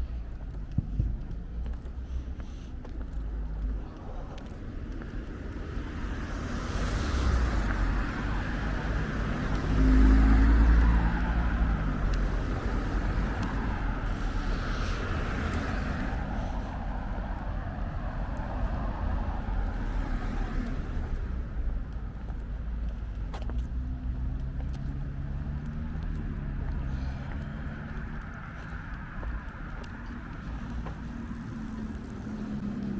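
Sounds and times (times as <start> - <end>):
steady road noise: 0.0 - 32.9
cars driving past: 0.3 - 32.9.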